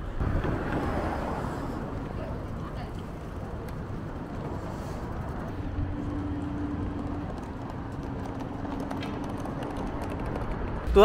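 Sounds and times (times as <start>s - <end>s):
city traffic: 0.0s - 11.0s.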